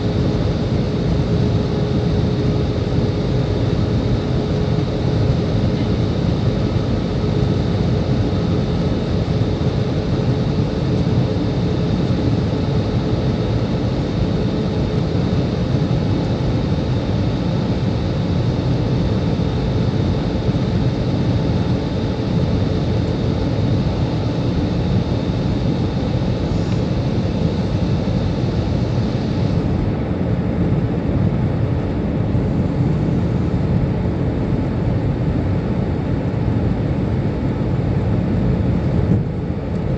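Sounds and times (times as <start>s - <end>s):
airliner engine and airflow rush: 0.0s - 39.9s
faint steady hum: 0.0s - 39.9s.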